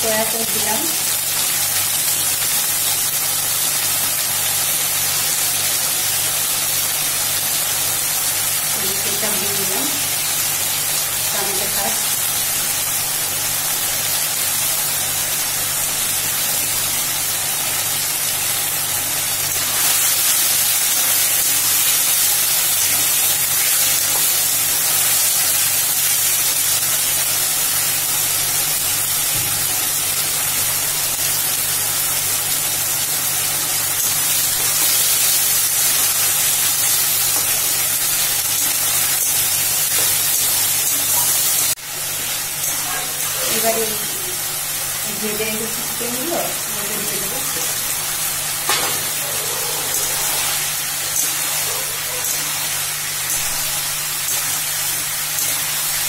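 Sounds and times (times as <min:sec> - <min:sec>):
vegetables sizzling in a wok: 0:00.0 - 0:56.0.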